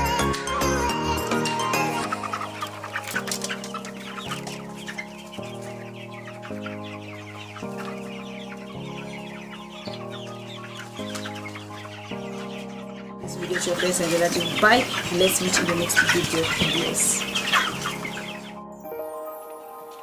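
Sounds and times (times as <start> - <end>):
chickens clucking: 0.0 - 18.8
music of held chords: 0.0 - 20.0.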